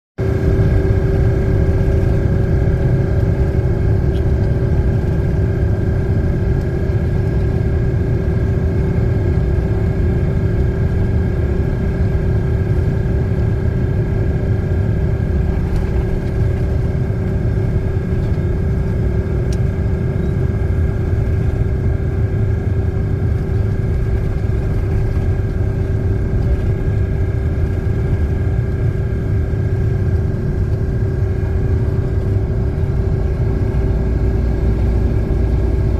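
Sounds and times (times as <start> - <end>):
high-pitched whine: 0.2 - 35.9
vehicle engine rumble: 0.2 - 35.9.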